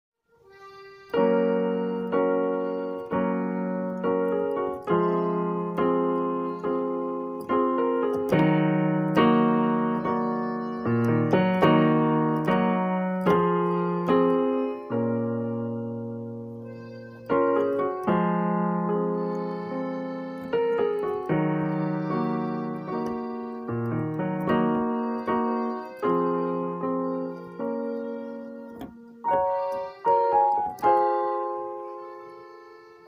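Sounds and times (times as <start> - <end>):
piano chords: 0.4 - 33.0.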